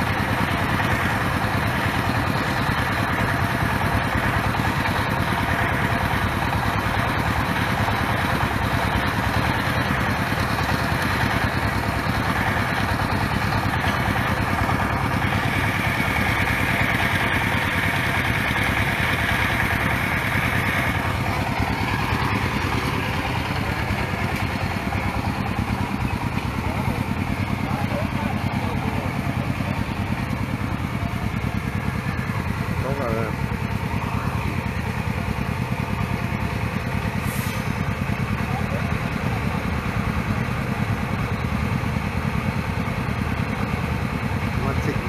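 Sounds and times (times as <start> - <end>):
drilling rig engine running: 0.0 - 45.0.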